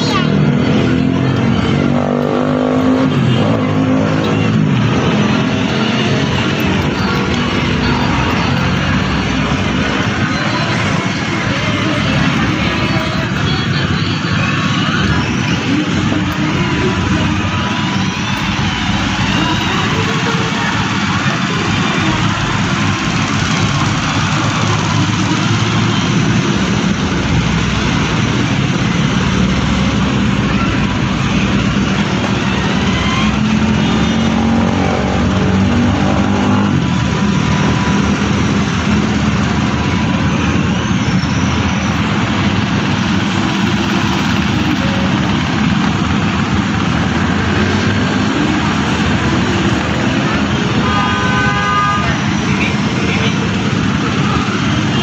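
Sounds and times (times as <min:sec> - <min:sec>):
loud motor noise: 0:00.0 - 0:55.0.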